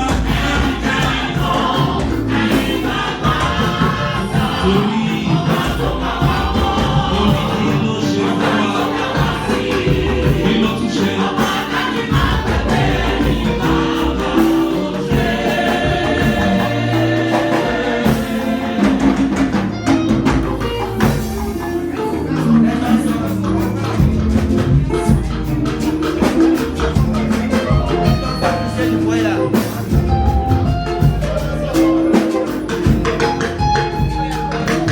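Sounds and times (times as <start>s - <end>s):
choir singing gospel: 0.0s - 34.9s
instrumental accompaniment: 0.0s - 34.9s
percussion beat: 0.0s - 34.9s.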